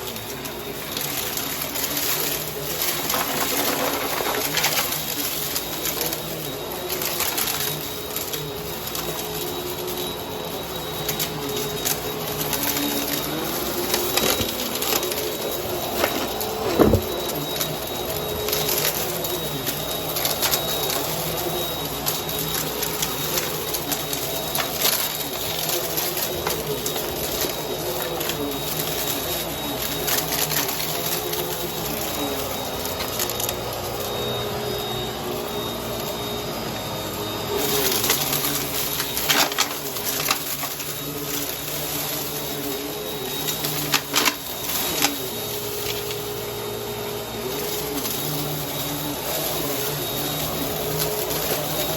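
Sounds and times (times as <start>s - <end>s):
vacuum cleaner motor hum: 0.0s - 51.9s.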